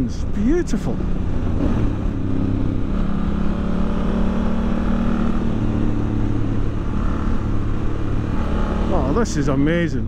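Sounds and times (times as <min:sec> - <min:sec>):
motorcycle engine running: 0:00.0 - 0:09.8
road noise: 0:00.0 - 0:10.0.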